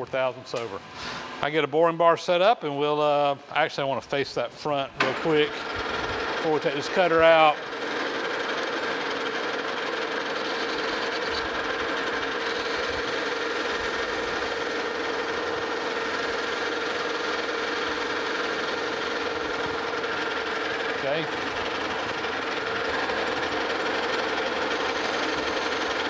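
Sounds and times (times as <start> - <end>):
metal lathe humming: 5.0 - 26.0
turning tool cutting steel: 5.0 - 26.0.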